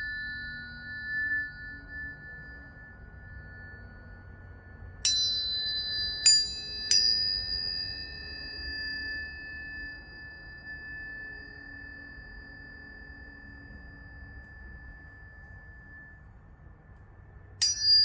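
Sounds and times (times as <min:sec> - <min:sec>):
tuning forks ringing: 0:00.0 - 0:18.0.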